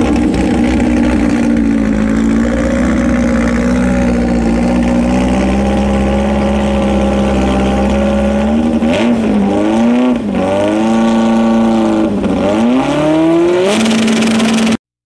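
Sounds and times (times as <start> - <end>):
car engine revving high: 0.0 - 14.8.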